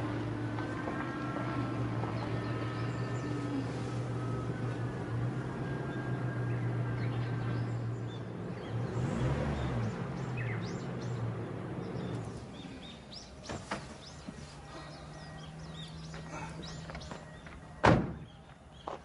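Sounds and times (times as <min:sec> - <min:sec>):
vehicle passing by: 0:00.0 - 0:17.7
birds chirping: 0:00.0 - 0:19.0
vehicle engine humming: 0:00.0 - 0:19.0.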